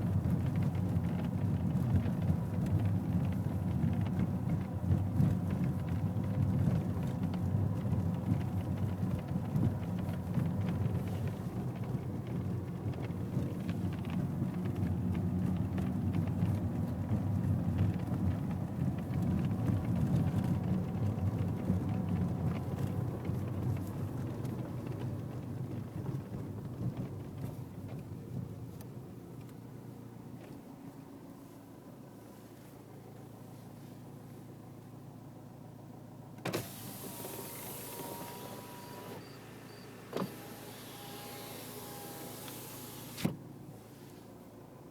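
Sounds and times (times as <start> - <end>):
car engine rumbling on road: 0.0 - 44.9.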